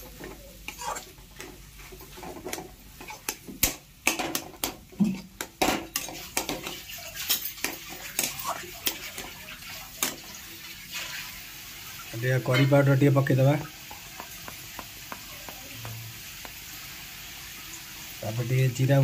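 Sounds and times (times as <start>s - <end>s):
spatula scraping and knocking pan: 0.0s - 11.3s, 12.3s - 16.9s.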